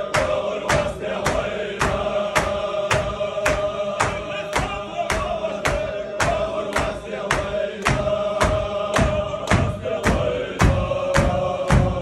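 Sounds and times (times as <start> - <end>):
hand-clapping: 0.0 - 12.0
men chanting in unison: 0.0 - 12.0.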